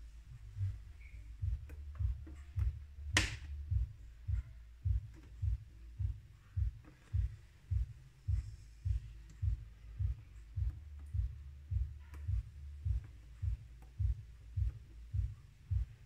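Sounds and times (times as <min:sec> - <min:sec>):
low regular thumping: 0:00.0 - 0:16.0
low steady hum: 0:00.0 - 0:16.0.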